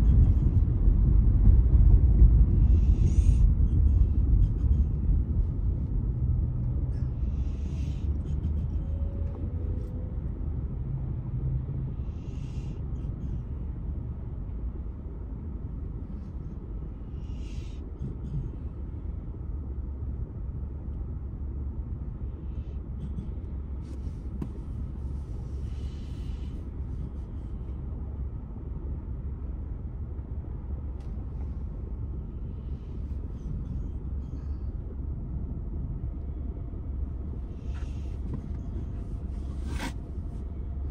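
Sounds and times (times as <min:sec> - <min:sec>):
low rumble inside car cabin: 0:00.0 - 0:40.9.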